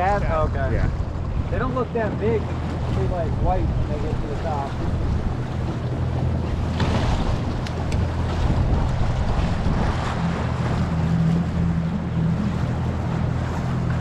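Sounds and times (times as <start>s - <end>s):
boat motor humming: 0.0s - 14.0s
water rushing past hull: 0.0s - 14.0s
wind noise on microphone: 0.0s - 14.0s.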